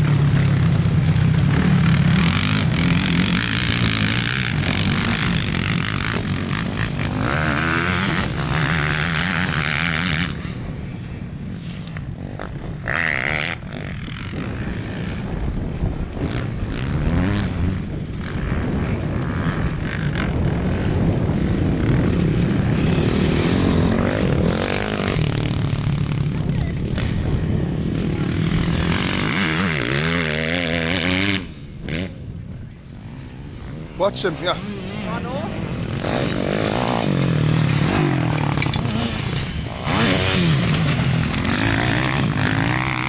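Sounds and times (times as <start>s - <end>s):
motocross bike engines revving: 0.0s - 43.0s.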